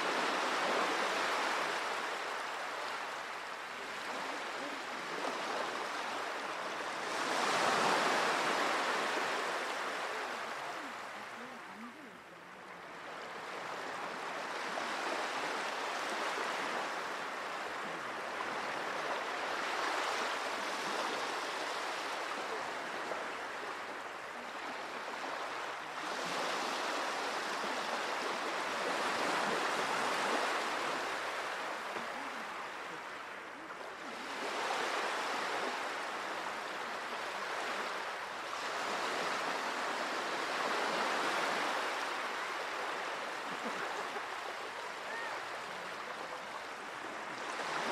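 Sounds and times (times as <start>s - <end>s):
sea waves washing ashore: 0.0s - 47.9s.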